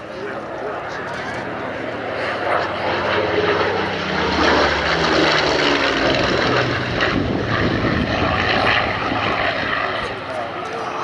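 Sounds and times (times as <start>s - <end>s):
propeller plane engine flying past: 0.0s - 11.0s.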